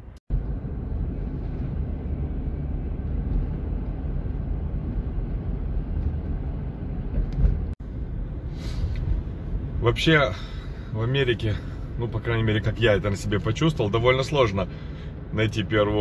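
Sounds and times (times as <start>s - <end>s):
car tyre and engine rumble: 0.0s - 16.0s.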